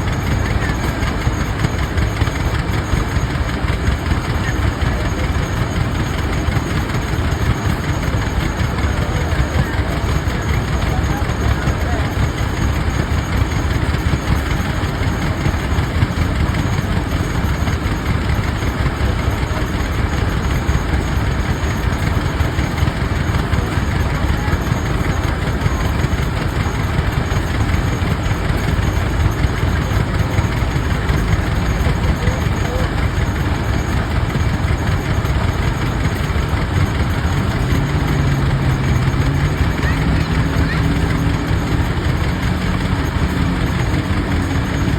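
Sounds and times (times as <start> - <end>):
tractor engines running: 0.0 - 44.9.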